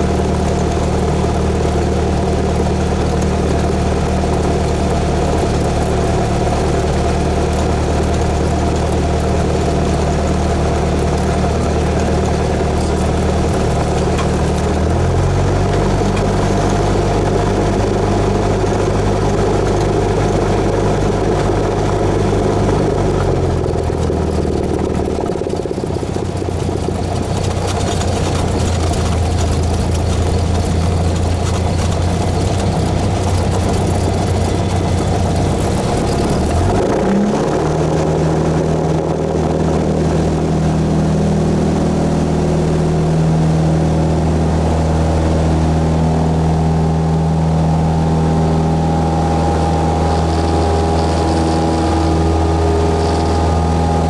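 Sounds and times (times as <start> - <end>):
piston engine and propeller: 0.0 - 54.0.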